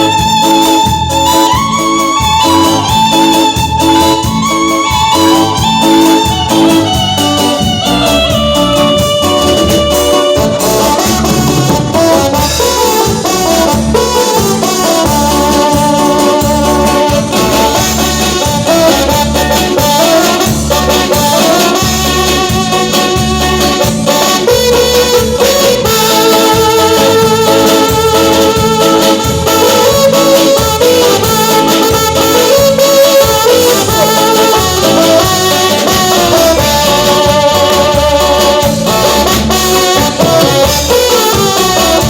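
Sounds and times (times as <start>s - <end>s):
latin dance band music: 0.0s - 42.0s.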